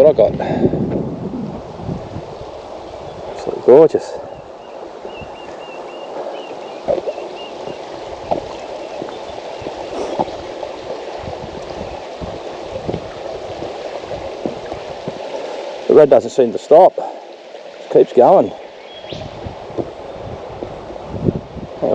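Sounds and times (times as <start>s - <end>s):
river water over rocks: 0.0s - 21.9s.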